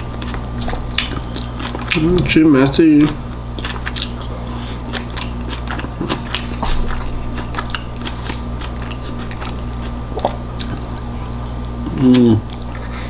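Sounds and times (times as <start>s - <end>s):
steady low hum: 0.0s - 13.0s
wet mouth chewing clicks: 0.2s - 2.1s, 3.6s - 12.8s.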